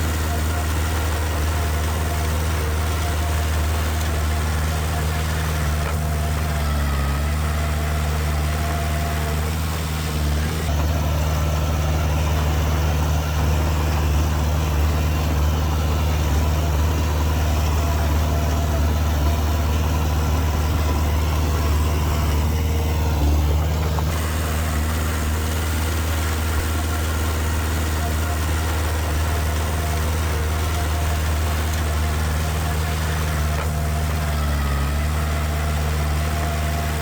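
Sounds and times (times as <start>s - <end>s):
diesel engine humming: 0.0s - 37.0s.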